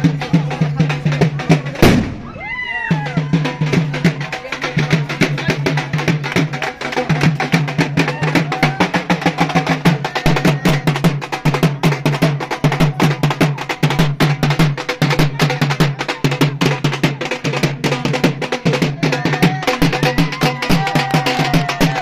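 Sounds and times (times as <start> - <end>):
deep repeating drum beat: 0.0 - 22.0
fast dense drumming: 0.0 - 22.0.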